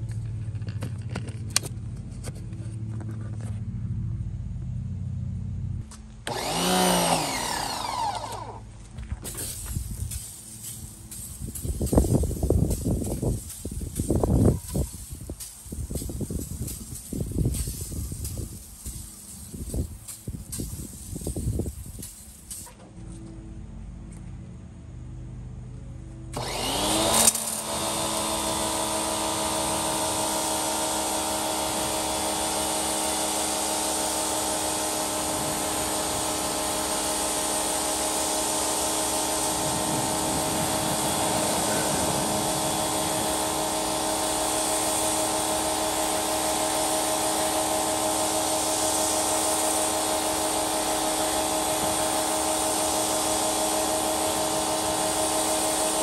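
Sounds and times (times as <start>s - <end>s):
pressure washer motor whining: 6.0s - 23.5s, 26.1s - 56.0s
water jet spraying on tire: 6.3s - 8.6s, 9.2s - 22.9s, 26.4s - 56.0s.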